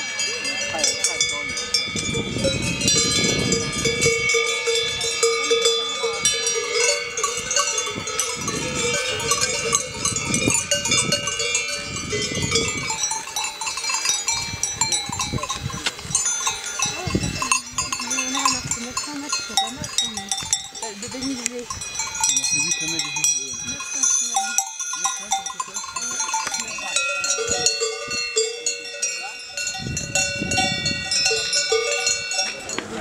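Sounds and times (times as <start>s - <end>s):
livestock bells clanking: 0.0s - 33.0s.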